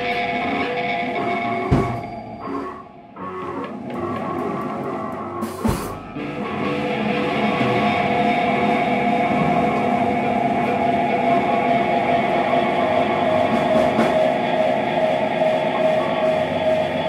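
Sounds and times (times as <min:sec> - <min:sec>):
droning space rock music: 0:00.0 - 0:17.0.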